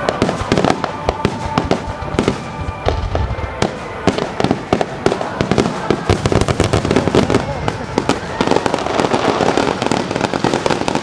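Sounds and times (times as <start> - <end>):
deep firework boom: 0.0 - 11.0
fireworks bursting and crackling: 0.0 - 11.0.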